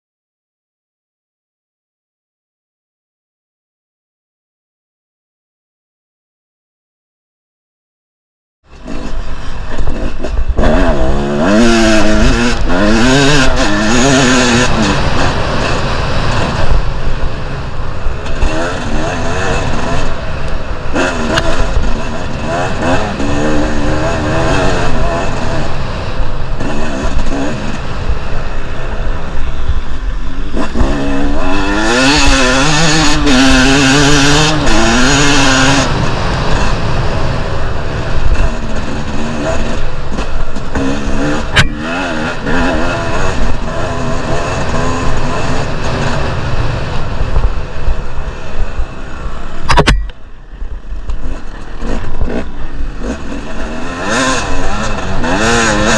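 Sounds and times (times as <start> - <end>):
dirt bike engine revving: 8.7 - 55.9.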